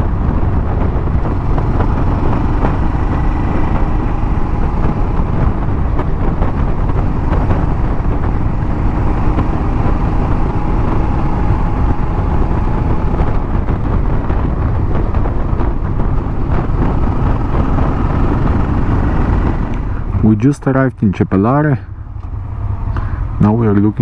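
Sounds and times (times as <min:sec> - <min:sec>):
motorcycle engine: 0:00.0 - 0:21.2, 0:21.8 - 0:24.0
wind rushing on microphone: 0:00.0 - 0:24.0.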